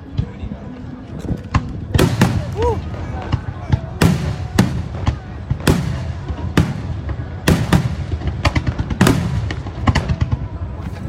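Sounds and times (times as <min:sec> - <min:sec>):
small firework pops: 0:01.4 - 0:11.0.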